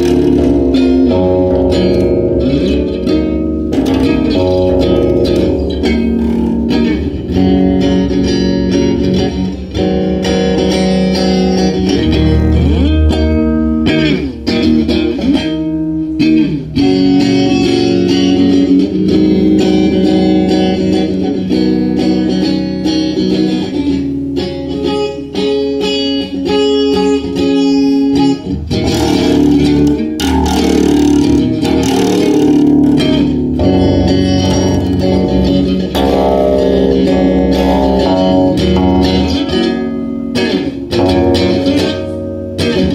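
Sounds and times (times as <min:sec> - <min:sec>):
electric guitar picked notes: 0:00.0 - 0:42.9.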